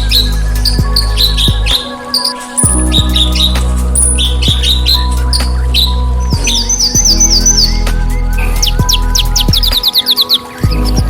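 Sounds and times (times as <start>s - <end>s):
background music with low drone: 0.0s - 11.0s
songbird chirping: 0.0s - 11.0s.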